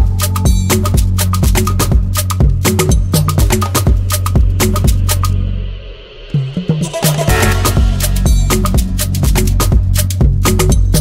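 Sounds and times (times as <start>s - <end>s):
bass line: 0.0s - 11.0s
percussion beat: 0.0s - 11.0s.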